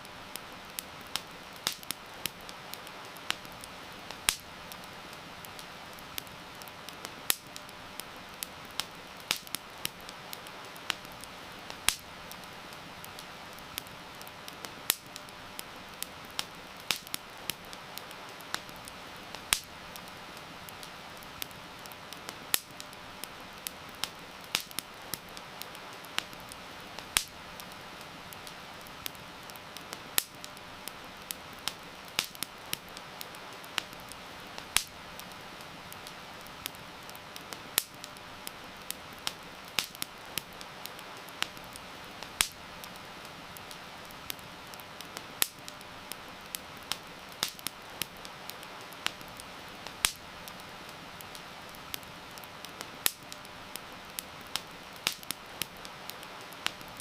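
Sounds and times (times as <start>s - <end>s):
heavy rain hiss: 0.0s - 57.0s
wood fire crackling: 0.0s - 57.0s.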